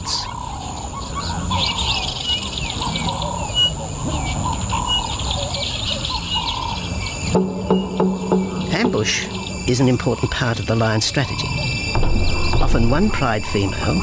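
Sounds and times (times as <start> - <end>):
birds chirping and warbling: 0.0 - 14.0.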